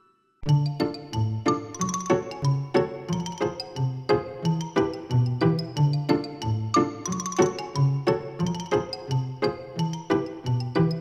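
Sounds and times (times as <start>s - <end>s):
bouncy background music: 0.4s - 11.0s.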